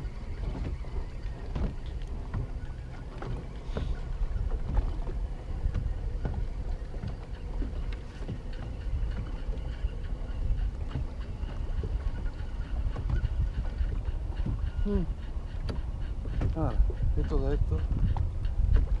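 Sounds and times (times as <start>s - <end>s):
water slapping against hull: 0.0s - 19.0s
wind rumbling on microphone: 0.0s - 19.0s.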